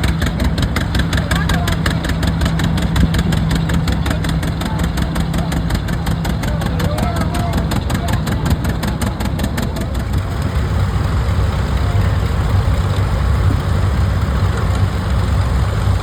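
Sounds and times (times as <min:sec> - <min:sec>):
engine running with pops: 0:00.0 - 0:16.0.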